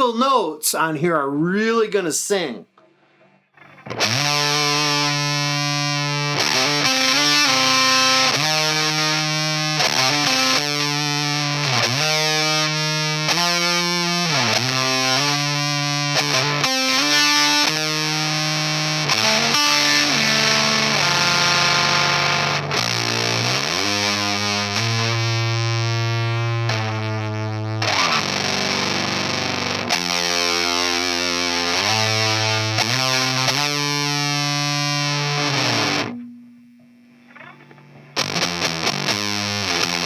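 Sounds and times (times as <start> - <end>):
fuzzed electric guitar: 2.8 - 40.0.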